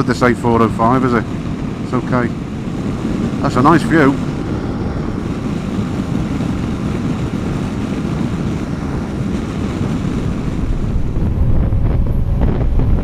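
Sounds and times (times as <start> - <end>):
motorcycle engine and road noise: 0.0 - 13.0
wind rushing over microphone: 0.0 - 13.0.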